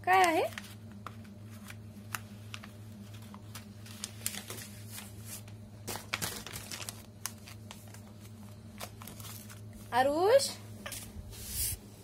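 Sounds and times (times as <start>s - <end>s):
steady low hum: 0.0s - 12.0s
paper crinkling and crumpling: 0.1s - 9.9s.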